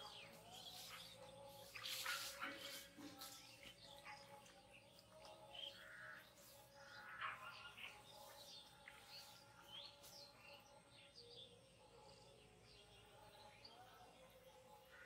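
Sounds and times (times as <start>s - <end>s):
birds chirping and whistling: 0.0s - 13.8s
faint steady background noise: 0.0s - 15.0s.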